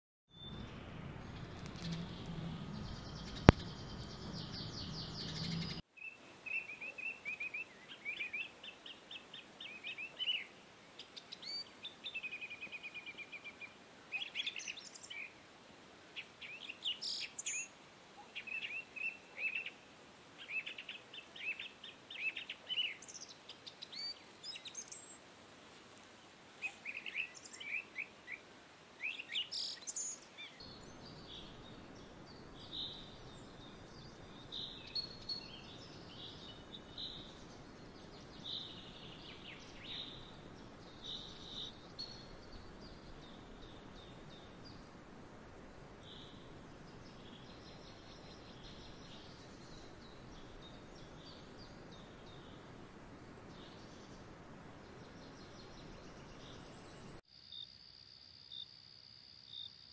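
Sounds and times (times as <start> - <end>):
birds chirping and trilling: 0.3 - 57.2
faint outdoor background noise: 0.3 - 59.9.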